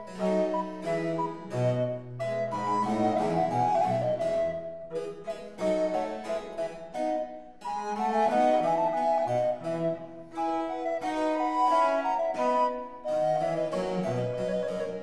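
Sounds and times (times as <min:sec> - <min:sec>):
harpsichord classical music: 0:00.0 - 0:15.0.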